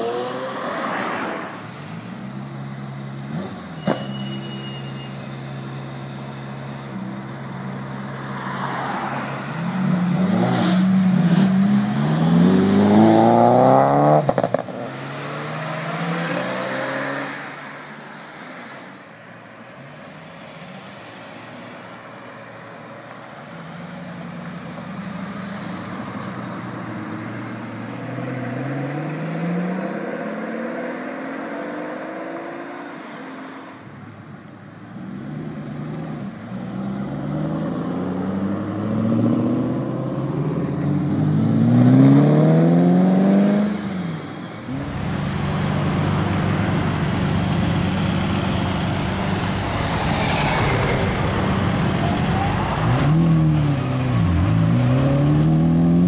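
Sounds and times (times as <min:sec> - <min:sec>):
sports car engines accelerating: 0:00.0 - 0:04.0, 0:05.3 - 0:18.8, 0:22.9 - 0:34.0, 0:34.7 - 0:56.0.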